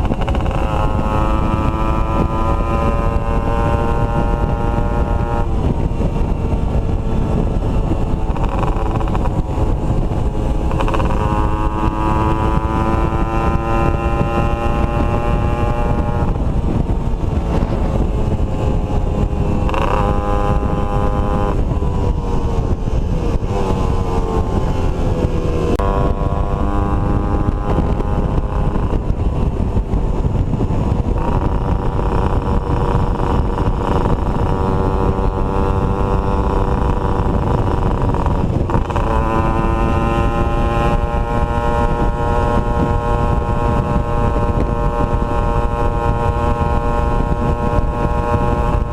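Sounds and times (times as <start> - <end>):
two-stroke motorcycle engine revving: 0.0 - 48.9.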